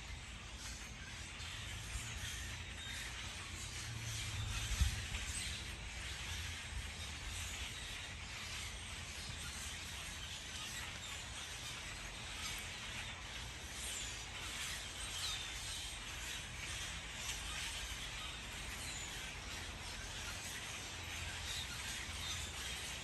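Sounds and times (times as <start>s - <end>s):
faint bird chirps: 0.0s - 23.0s
outdoor background hiss: 0.0s - 23.0s.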